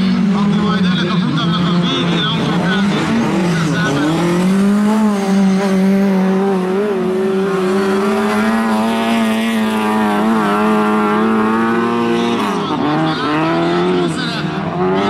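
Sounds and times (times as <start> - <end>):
rally car engine revving high: 0.0 - 15.0.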